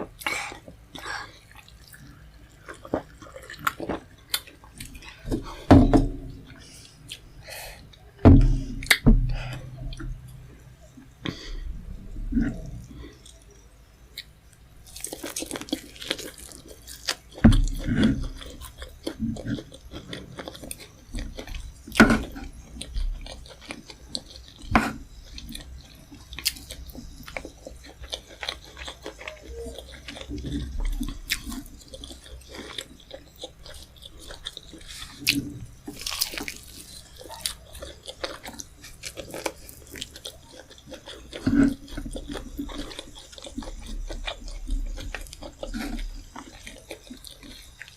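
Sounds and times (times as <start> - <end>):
person chewing and biting food: 0.1 - 8.0, 12.4 - 47.9.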